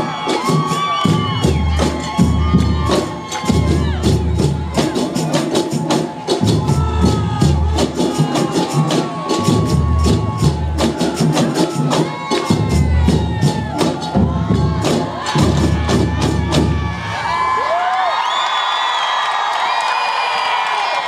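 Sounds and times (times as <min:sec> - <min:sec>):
samba drum section playing: 0:00.0 - 0:17.6
crowd cheering: 0:00.0 - 0:21.0.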